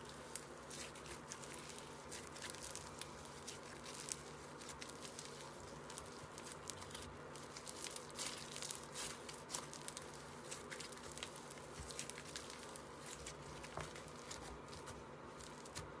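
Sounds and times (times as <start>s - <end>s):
slime squishing with pops: 0.0s - 16.0s.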